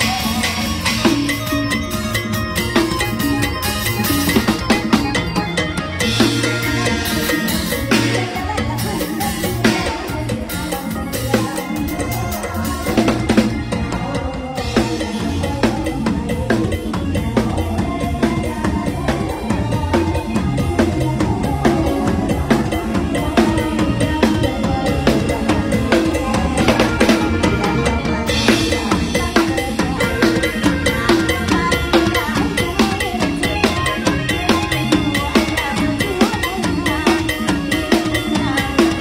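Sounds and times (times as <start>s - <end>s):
band music: 0.0s - 39.0s
drum kit playing busy beat: 0.0s - 39.0s
stepping bass line: 0.0s - 39.0s.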